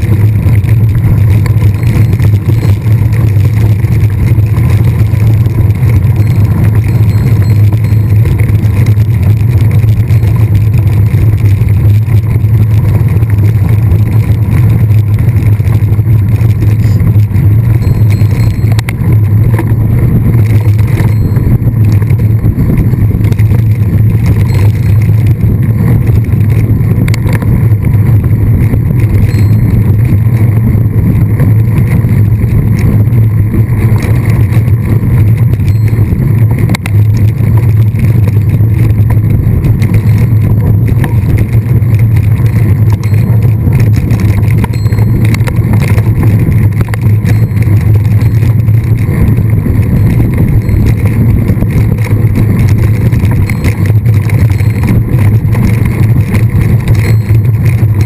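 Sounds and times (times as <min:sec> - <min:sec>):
bike rolling noise: 0:00.0 - 0:58.0
wind buffeting microphone: 0:00.0 - 0:58.0.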